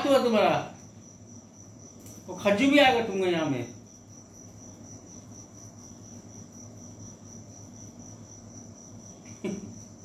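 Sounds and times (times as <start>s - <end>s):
high-pitched insect chirp: 0.0s - 10.0s.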